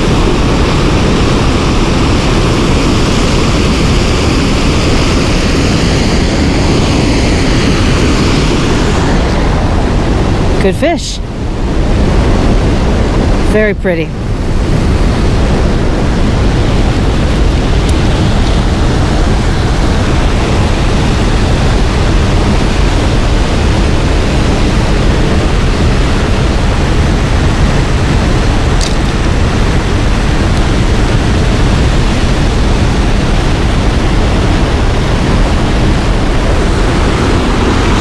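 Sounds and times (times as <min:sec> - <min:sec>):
rushing river water: 0:00.0 - 0:38.0.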